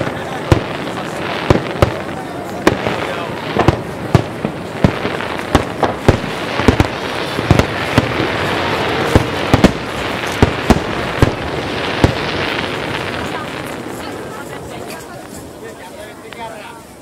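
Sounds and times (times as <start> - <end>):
firework shells bursting: 0.0 - 15.6
steady hiss: 0.0 - 17.0.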